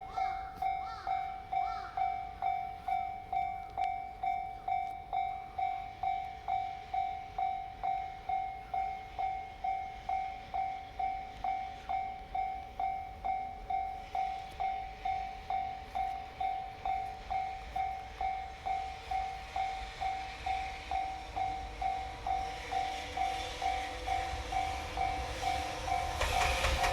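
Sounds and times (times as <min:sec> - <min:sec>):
approaching train rumble: 0:00.0 - 0:26.9
level crossing warning bell: 0:00.0 - 0:26.9.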